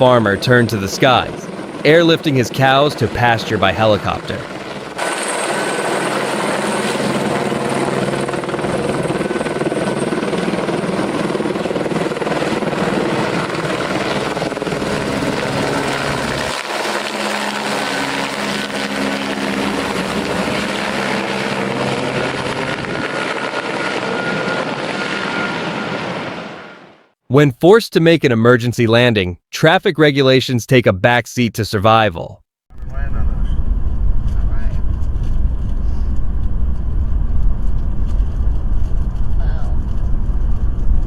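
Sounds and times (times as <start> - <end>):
helicopter rotor and turbine: 0.0 - 27.2, 32.7 - 41.0.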